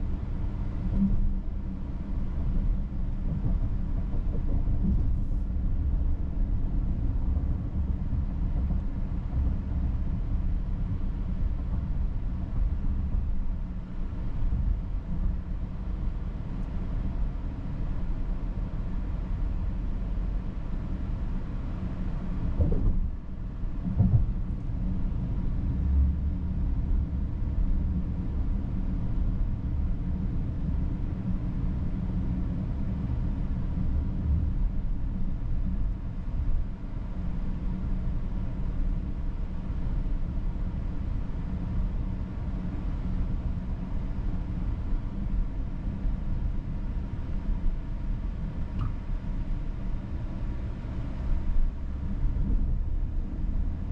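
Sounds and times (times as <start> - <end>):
road and tyre noise in car: 0.0 - 53.9.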